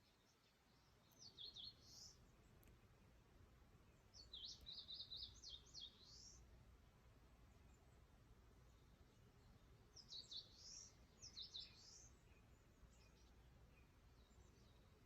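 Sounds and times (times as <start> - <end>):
faint bird song chirping: 0.0 - 15.0.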